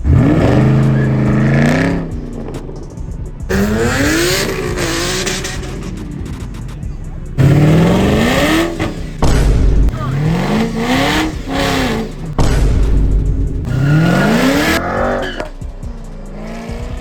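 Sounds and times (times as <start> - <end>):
cars accelerating hard: 0.0 - 17.0.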